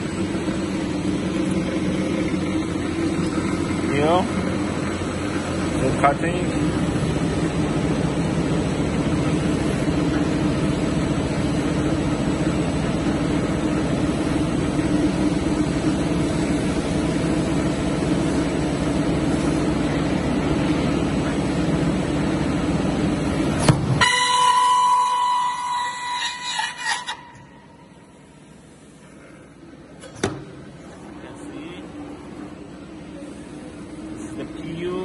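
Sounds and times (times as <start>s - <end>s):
machine motors humming and hissing: 0.0s - 35.0s.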